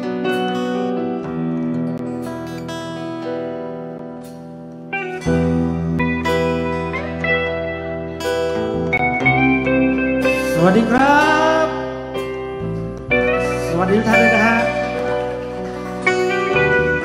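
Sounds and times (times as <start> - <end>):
band backing: 0.0 - 17.0
electric guitar solo: 0.0 - 17.0
sustained keyboard chords: 0.0 - 17.0.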